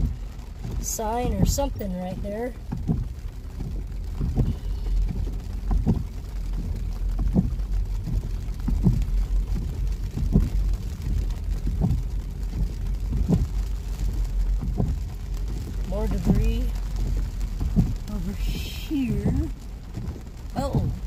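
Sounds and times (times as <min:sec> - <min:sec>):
car engine low rumble: 0:00.0 - 0:21.0
rain on windshield: 0:00.0 - 0:21.0
windshield wipers sweeping: 0:00.0 - 0:21.0.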